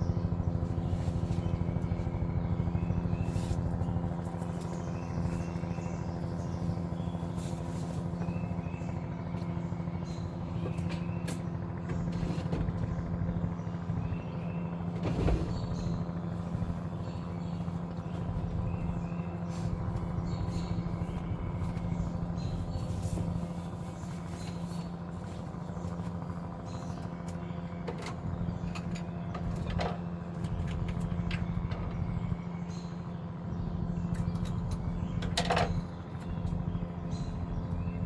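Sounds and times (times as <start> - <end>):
helicopter engine hum: 0.0 - 38.0
helicopter rotor chop: 0.0 - 38.0.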